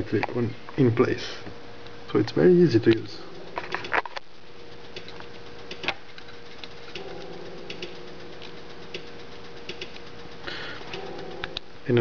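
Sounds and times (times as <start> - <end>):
steady low hum: 0.0 - 12.0
sequencer control clicks: 1.8 - 11.7.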